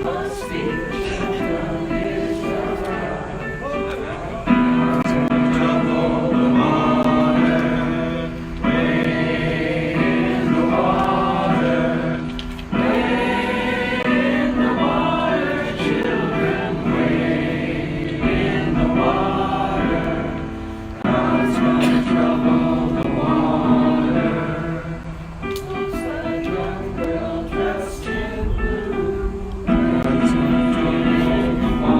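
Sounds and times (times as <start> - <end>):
group of people singing: 0.0 - 31.9.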